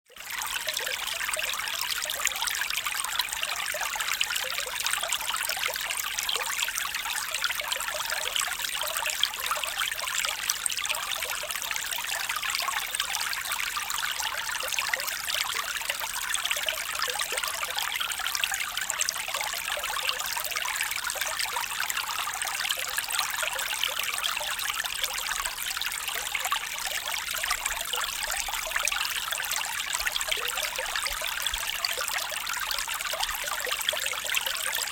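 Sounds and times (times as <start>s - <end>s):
stream babbling over stones: 0.3s - 34.9s.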